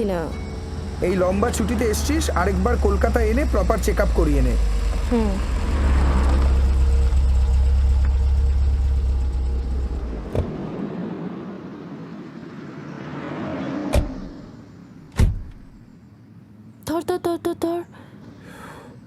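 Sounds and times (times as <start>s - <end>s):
car engine rumbling: 0.0s - 18.4s.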